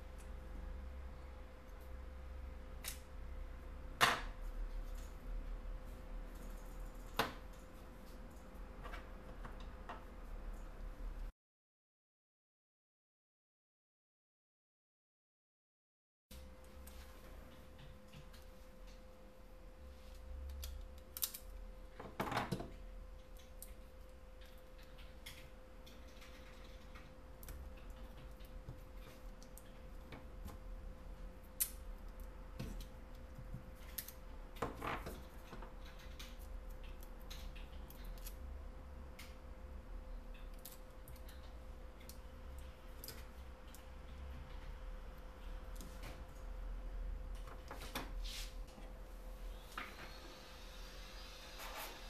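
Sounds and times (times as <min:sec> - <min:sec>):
faint steady hum: 0:00.0 - 0:11.3, 0:16.3 - 0:52.0.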